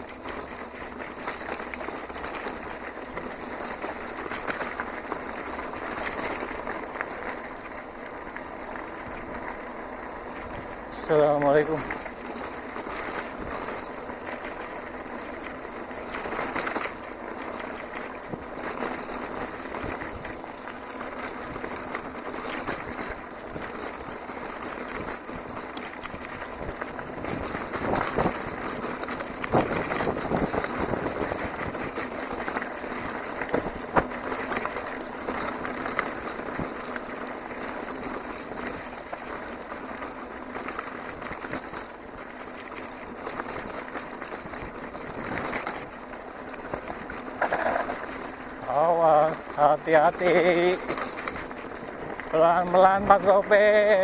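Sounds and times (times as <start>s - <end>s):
bicycle rolling and rattling on dirt: 0.0s - 54.0s.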